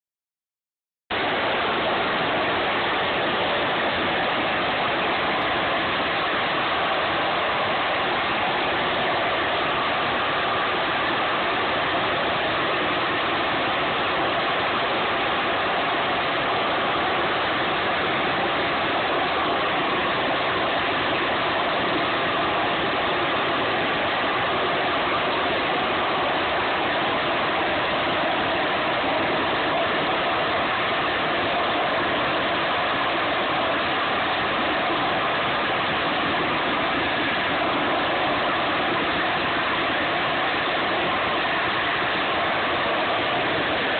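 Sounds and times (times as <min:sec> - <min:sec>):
jet engine rush: 0:01.1 - 0:43.9.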